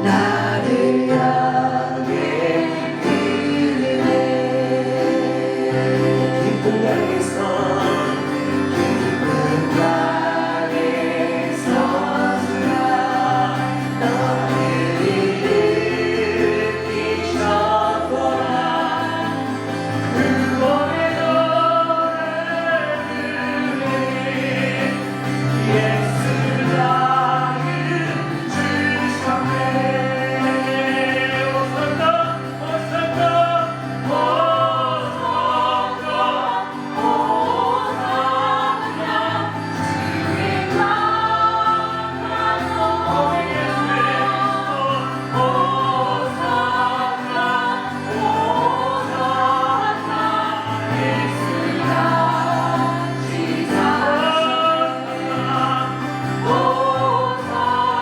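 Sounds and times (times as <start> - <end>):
choir singing: 0.0 - 58.0
instrumental accompaniment: 0.0 - 58.0.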